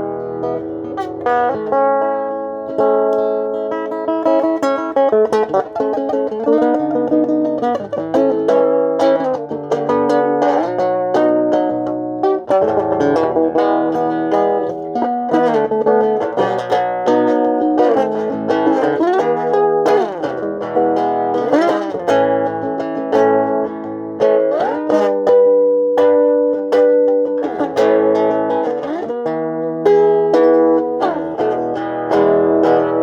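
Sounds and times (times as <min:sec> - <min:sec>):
guitar playing notes and chords: 0:00.0 - 0:33.0.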